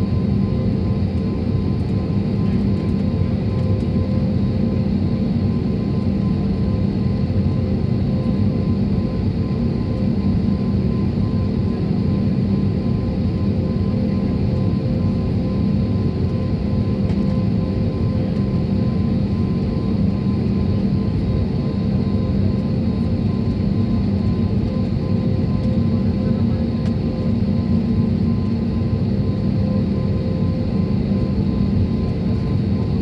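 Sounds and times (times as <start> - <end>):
jet engine drone in cabin: 0.0 - 33.0.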